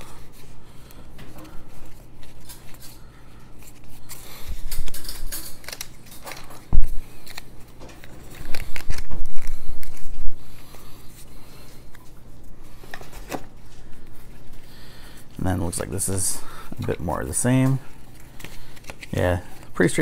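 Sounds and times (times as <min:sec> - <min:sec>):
playing cards flipping: 0:00.2 - 0:03.0, 0:03.6 - 0:15.8, 0:16.6 - 0:20.0.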